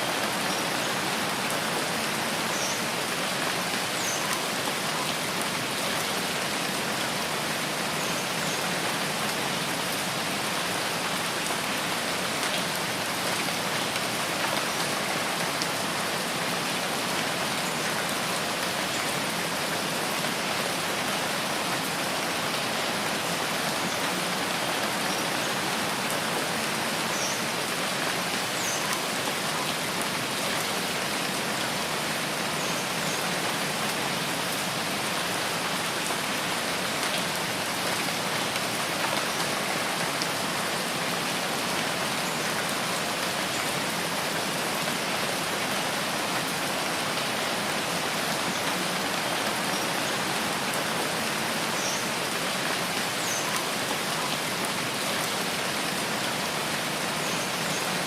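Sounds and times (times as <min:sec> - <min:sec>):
rain on foliage: 0:00.0 - 0:58.0.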